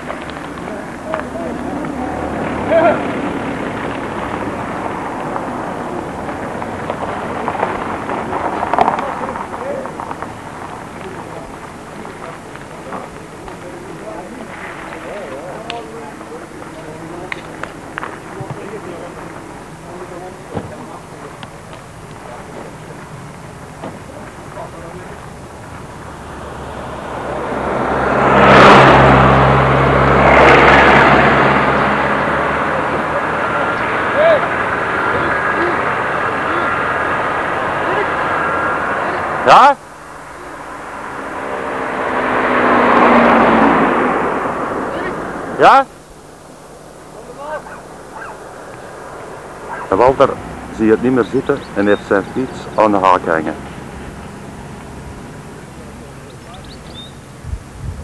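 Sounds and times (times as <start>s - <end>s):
heavy vehicle engine hum: 0.0s - 58.0s
outdoor background noise: 0.0s - 58.0s
road noise: 0.0s - 58.0s.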